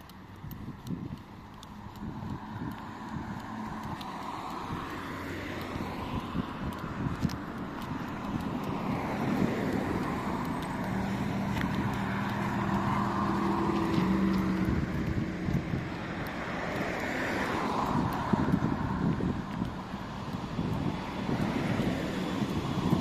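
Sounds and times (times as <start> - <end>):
low engine hum: 0.0 - 23.0
vehicles driving past: 0.0 - 23.0
wind on microphone: 0.4 - 23.0.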